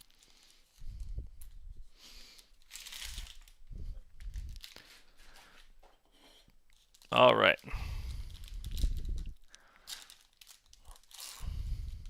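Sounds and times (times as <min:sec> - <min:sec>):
plastic wrapper crinkling and tearing: 0:00.0 - 0:01.6, 0:02.3 - 0:05.4, 0:06.7 - 0:12.0.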